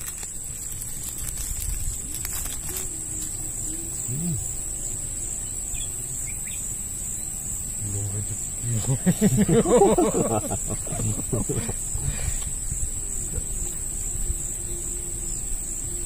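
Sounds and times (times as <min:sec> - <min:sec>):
faint curving calls: 0:00.0 - 0:16.0
insects trilling: 0:00.0 - 0:16.0
low background rumble: 0:00.0 - 0:16.0.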